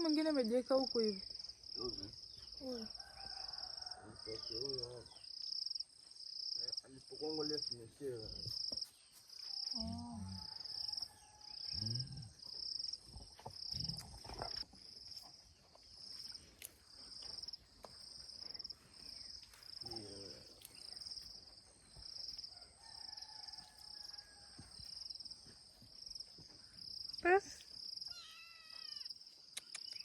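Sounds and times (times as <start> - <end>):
cricket chirping: 0.0 - 30.0.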